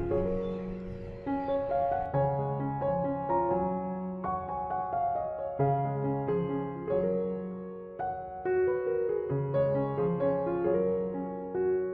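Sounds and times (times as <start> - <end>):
gentle piano music: 0.0 - 11.9.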